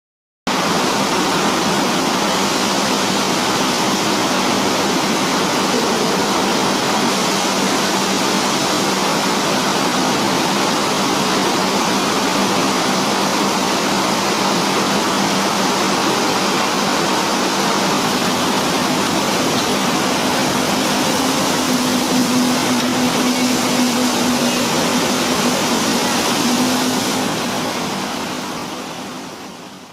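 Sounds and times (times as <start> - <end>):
heavy rain: 0.5 - 29.9.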